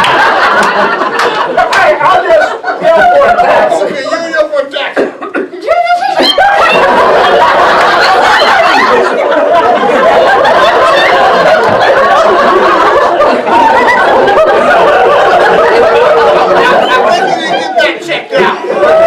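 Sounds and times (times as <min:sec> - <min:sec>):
audience laughing: 0:00.0 - 0:04.4, 0:05.1 - 0:19.0.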